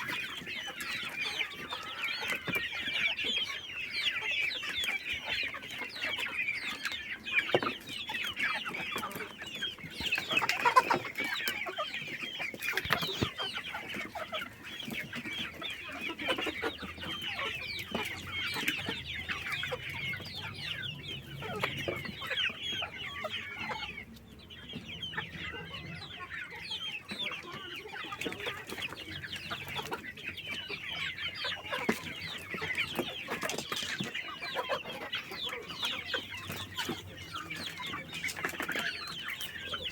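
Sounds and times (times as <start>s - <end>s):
chickens clucking and chirping: 0.0s - 39.9s.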